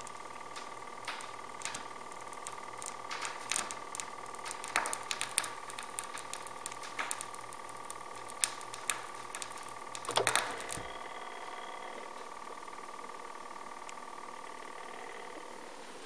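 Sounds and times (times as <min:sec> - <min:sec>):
vinyl record clicks and pops: 0:00.0 - 0:15.4
faint steady tone: 0:00.0 - 0:16.0.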